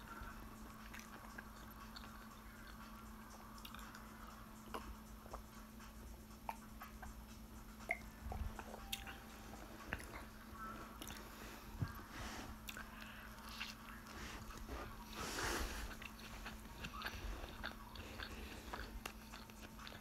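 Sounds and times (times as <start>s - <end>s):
faint steady hum: 0.0s - 20.0s
chewing: 0.2s - 5.7s, 7.9s - 12.0s, 12.6s - 20.0s.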